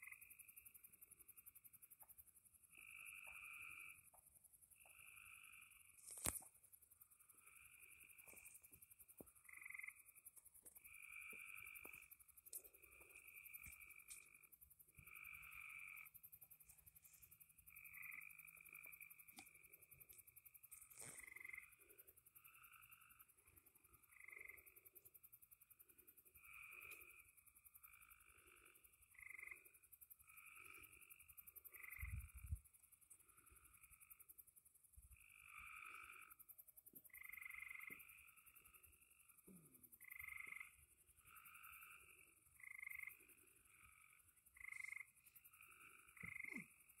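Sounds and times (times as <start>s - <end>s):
frogs calling faintly: 0.0s - 47.0s.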